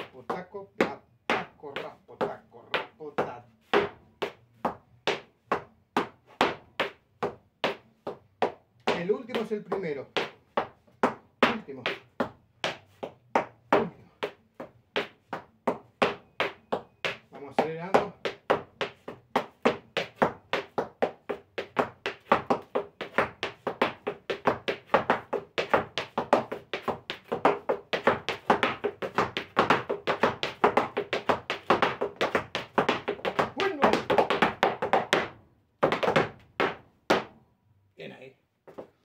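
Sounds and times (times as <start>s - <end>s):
boot heels striking wooden floor: 5.5s - 37.4s.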